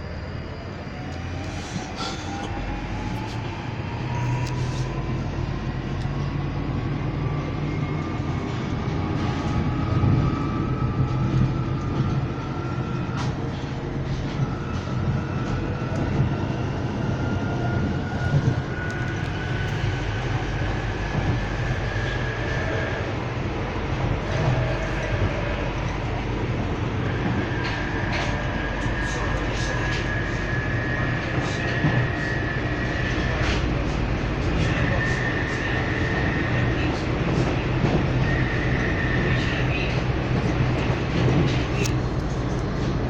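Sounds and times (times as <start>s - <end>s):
train traction motor whine: 0.0s - 43.0s
wheels rumbling on track: 0.0s - 43.0s.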